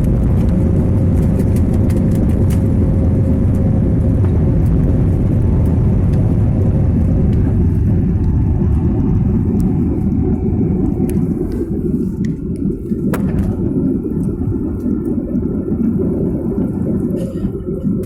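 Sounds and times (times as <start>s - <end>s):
aircraft engines rumbling: 0.0s - 18.0s.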